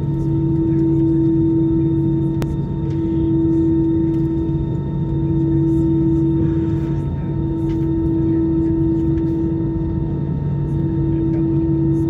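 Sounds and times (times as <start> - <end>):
airplane cabin engine hum: 0.0 - 12.0.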